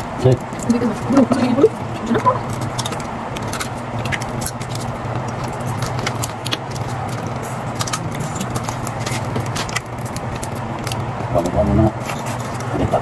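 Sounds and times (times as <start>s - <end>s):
crab shells cracking: 0.0s - 12.8s
low hum: 0.0s - 13.0s.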